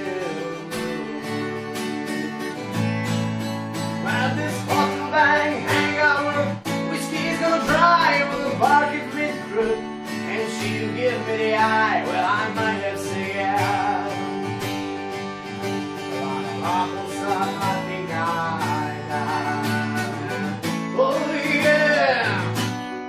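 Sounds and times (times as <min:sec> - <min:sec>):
man singing: 0:00.0 - 0:02.8, 0:03.9 - 0:14.6, 0:15.8 - 0:22.7
acoustic guitar strummed: 0:00.0 - 0:23.0.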